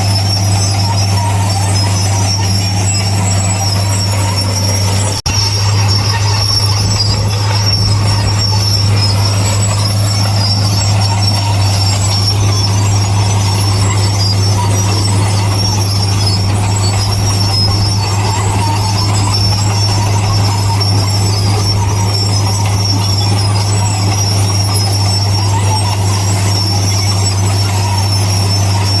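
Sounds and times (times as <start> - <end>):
diesel engine drone: 0.0 - 29.0
metallic squealing of steel tracks: 0.0 - 29.0.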